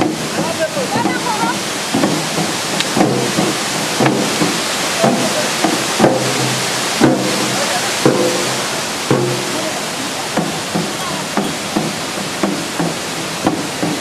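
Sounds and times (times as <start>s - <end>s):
sharp drum-like strikes: 0.0s - 14.0s
waterfall rushing: 0.0s - 14.0s.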